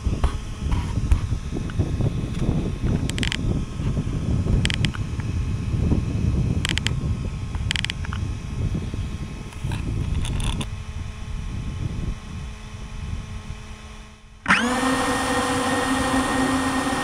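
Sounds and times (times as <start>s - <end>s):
drone motors whining: 0.0s - 17.0s
low rumbling: 0.0s - 17.0s.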